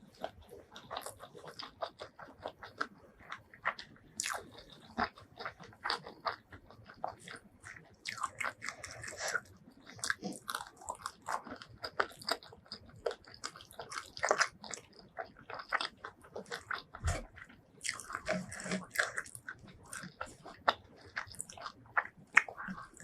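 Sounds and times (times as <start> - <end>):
chewing crispy fried food: 0.0 - 23.0.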